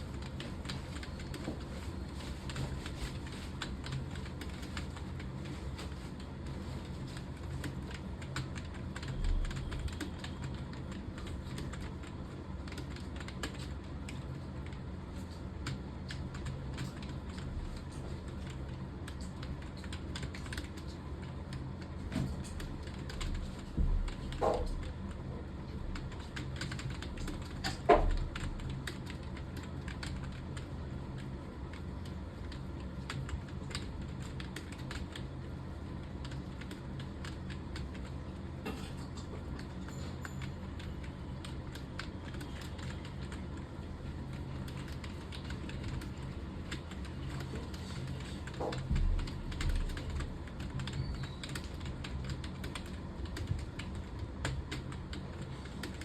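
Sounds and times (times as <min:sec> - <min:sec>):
keyboard typing: 0:00.0 - 0:56.0.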